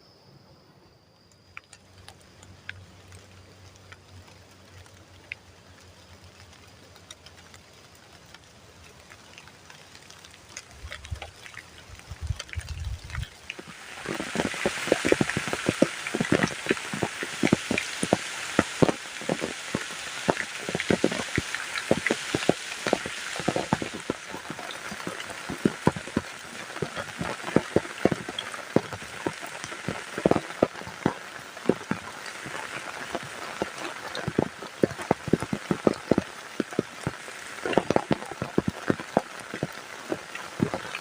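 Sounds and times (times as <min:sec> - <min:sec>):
raindrops striking a surface: 0:01.3 - 0:41.0
heavy rain hissing: 0:01.8 - 0:41.0.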